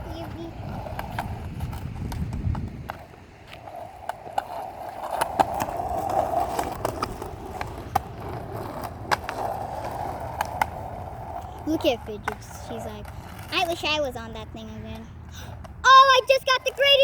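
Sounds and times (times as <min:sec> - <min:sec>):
skateboard clicks and clacks: 0:00.0 - 0:17.0
skateboard wheels rolling on pavement: 0:00.0 - 0:17.0.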